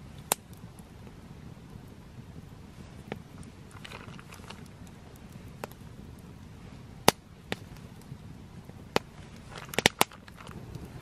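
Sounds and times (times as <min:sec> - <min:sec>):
faint low background hum: 0:00.0 - 0:11.0.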